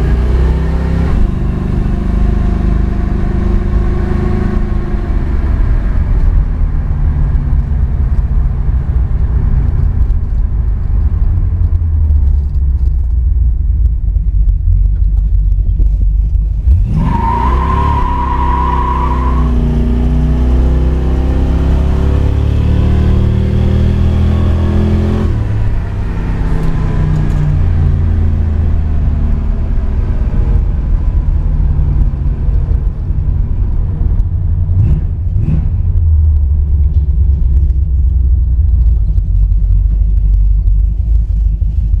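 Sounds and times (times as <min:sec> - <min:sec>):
car engine and exhaust while driving: 0:00.0 - 0:42.0.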